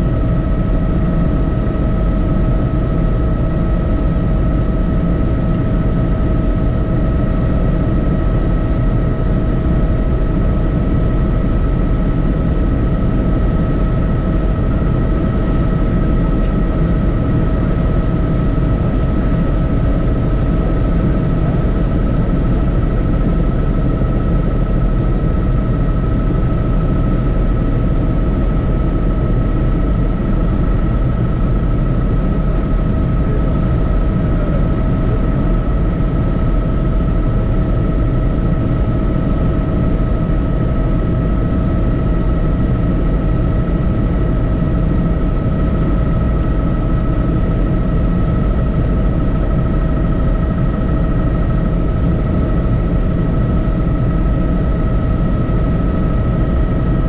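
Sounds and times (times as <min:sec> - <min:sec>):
helicopter rotor drone: 0:00.0 - 0:57.0
helicopter whine: 0:00.0 - 0:57.0.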